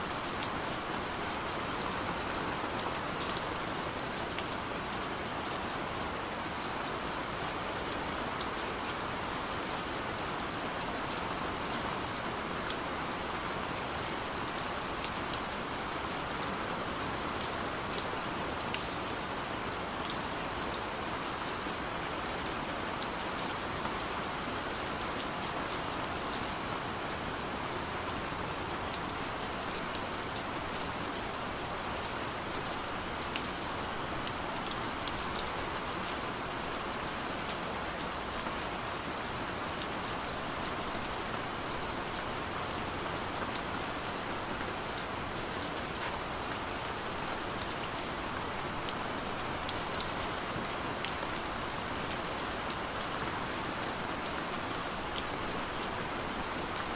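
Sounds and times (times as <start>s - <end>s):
gentle rain falling: 0.0s - 56.9s.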